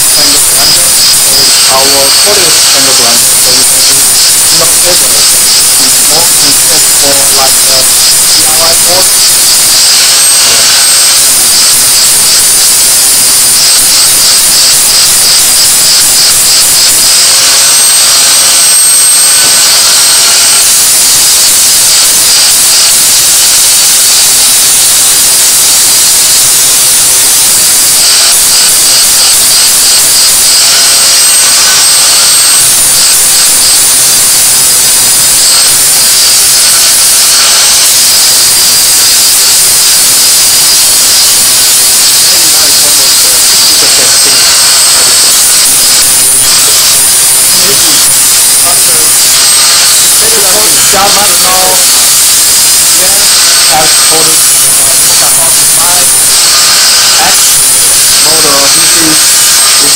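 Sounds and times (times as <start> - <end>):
angle grinder grinding metal: 0.0 - 59.9
thin high whine: 0.0 - 59.9.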